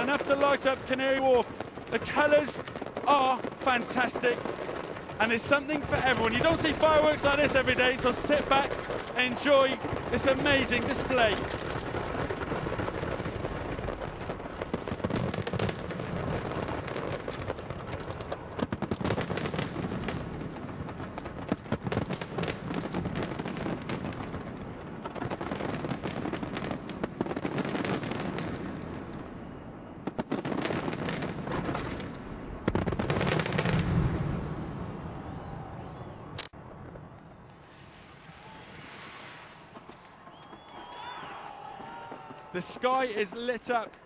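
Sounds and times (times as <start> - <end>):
fireworks crackling and bangs: 0.0 - 35.7, 36.5 - 44.0.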